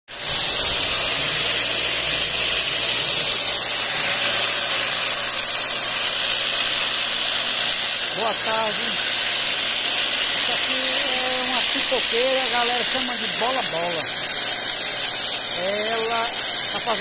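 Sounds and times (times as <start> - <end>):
tumbling machine running: 0.1 - 17.0.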